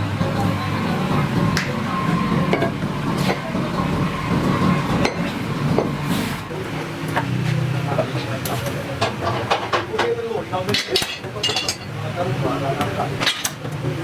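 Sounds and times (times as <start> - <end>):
workshop machinery humming: 0.0 - 14.0.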